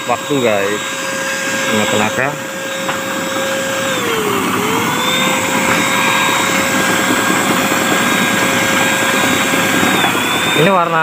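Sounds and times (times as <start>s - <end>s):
paint spray gun motor whine: 0.0s - 11.0s.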